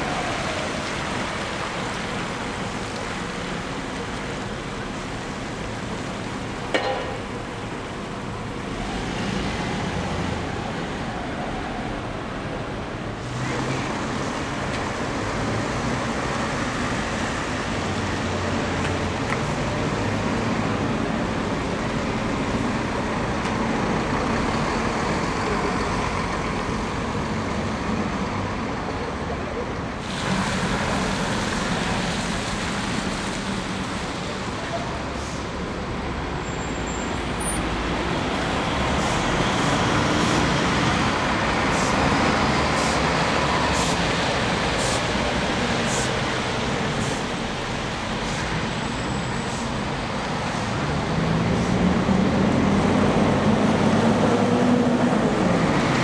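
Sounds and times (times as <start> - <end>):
bus engines running: 0.0 - 56.0
bus passing close by: 0.0 - 56.0
traffic on wet street: 0.0 - 56.0.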